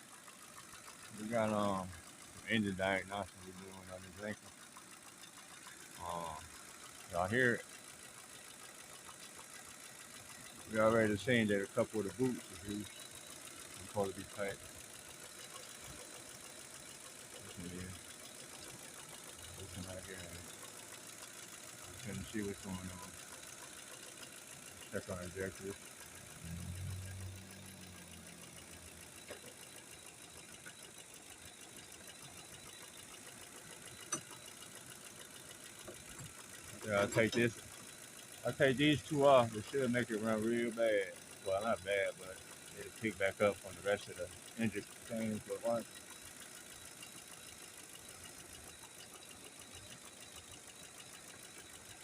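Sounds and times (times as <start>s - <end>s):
engine idling with rapid ticking: 0.0s - 52.0s.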